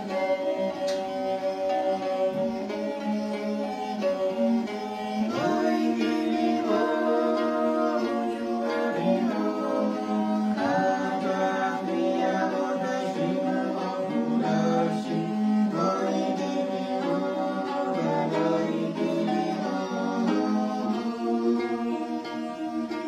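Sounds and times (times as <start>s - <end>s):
bowed string drone: 0.0s - 23.0s
plucked harp: 0.0s - 23.0s
voices singing together: 0.0s - 23.0s.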